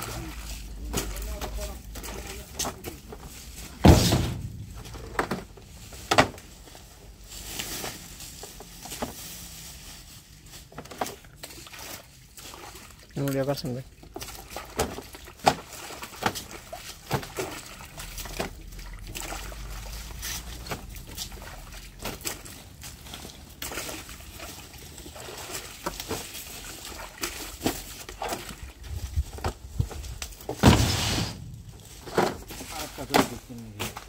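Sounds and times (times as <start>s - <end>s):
water splashes: 0.0s - 5.2s, 11.0s - 34.0s
water sloshing and dripping: 0.0s - 9.4s, 10.2s - 34.0s.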